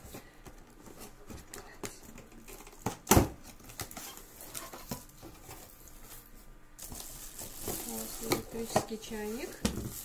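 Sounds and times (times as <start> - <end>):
cardboard packaging rustling: 0.0 - 10.0.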